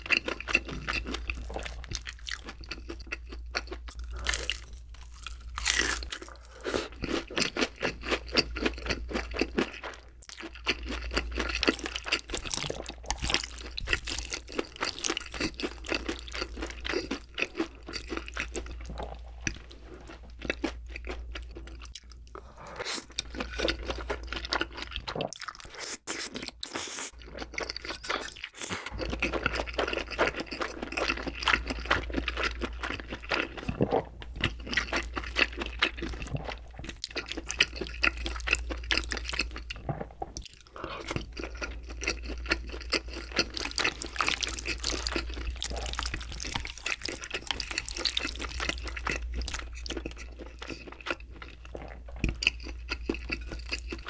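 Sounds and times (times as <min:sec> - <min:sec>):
crunching and chewing fried food: 0:00.0 - 0:54.0.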